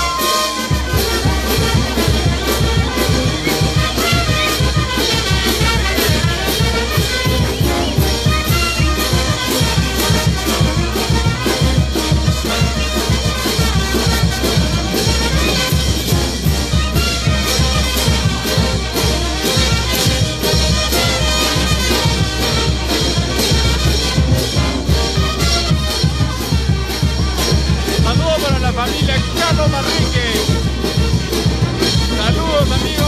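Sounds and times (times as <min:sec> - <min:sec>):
brass band playing dance tune: 0:00.0 - 0:33.0.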